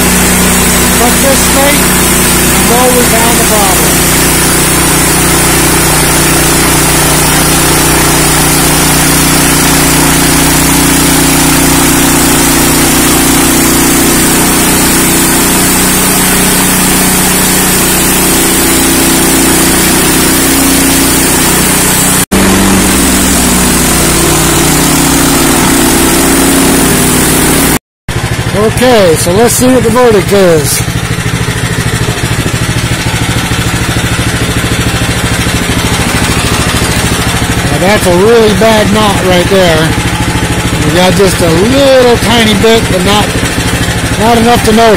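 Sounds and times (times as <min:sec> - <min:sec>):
band saw cutting log: 0:00.0 - 0:44.9
engine running under load: 0:00.0 - 0:44.9.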